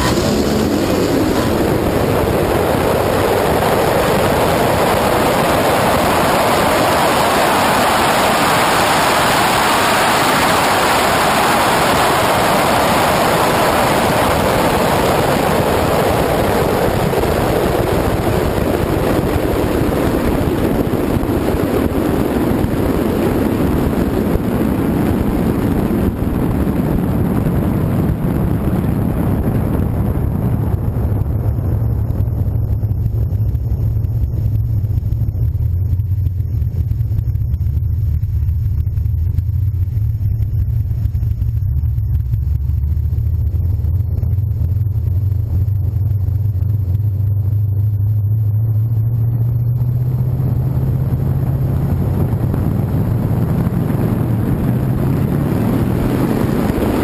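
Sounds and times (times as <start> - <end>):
car engine running: 0.0 - 57.0
wind and road noise: 0.0 - 57.0.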